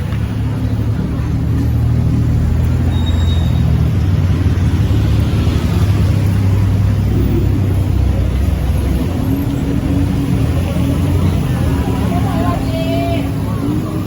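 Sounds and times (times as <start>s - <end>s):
engine rumbling: 0.0s - 14.0s
light street noise: 0.0s - 14.0s.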